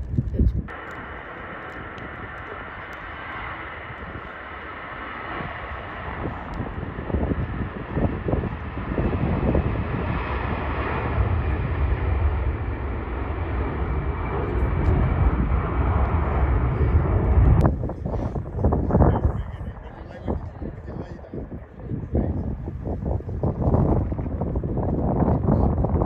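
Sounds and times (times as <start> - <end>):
wind buffeting microphone: 0.0 - 26.0
jet airliner engines whining: 0.6 - 26.0.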